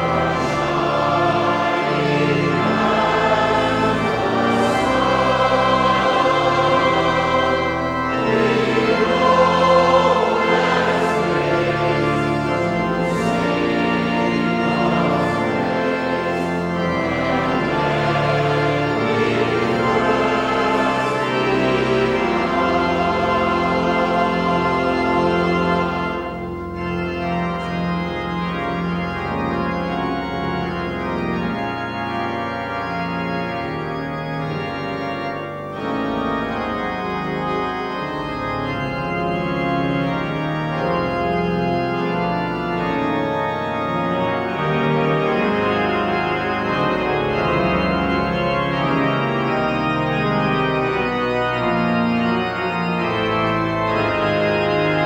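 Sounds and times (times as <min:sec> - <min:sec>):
pipe organ playing a hymn: 0:00.0 - 0:55.0.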